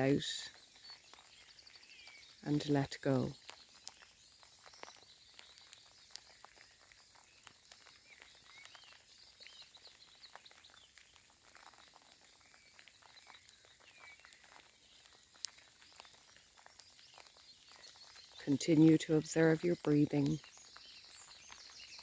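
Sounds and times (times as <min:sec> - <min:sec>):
light rain dripping: 0:00.0 - 0:22.0
small birds chirping: 0:00.0 - 0:22.0.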